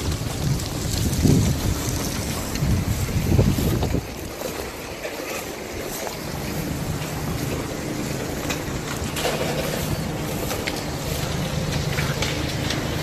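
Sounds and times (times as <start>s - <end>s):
low roar of lava burning vegetation: 0.0s - 13.0s
sharp crackles and pops: 0.0s - 13.0s.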